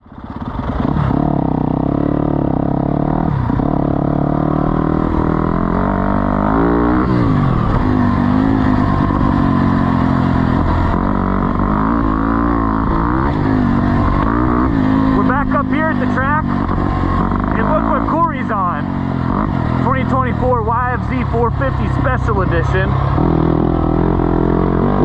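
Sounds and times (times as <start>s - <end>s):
off-road engine running hard: 0.0s - 25.0s.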